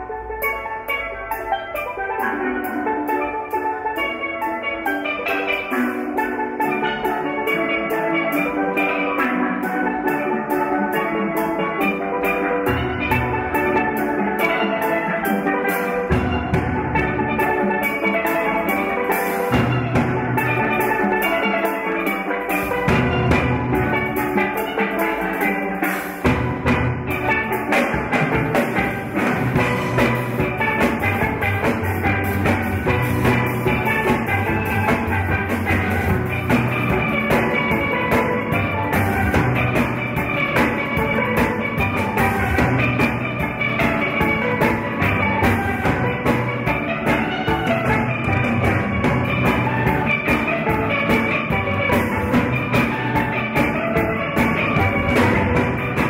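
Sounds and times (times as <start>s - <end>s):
steady drum beat: 0.0s - 56.0s
steelpans playing melody: 0.0s - 56.0s.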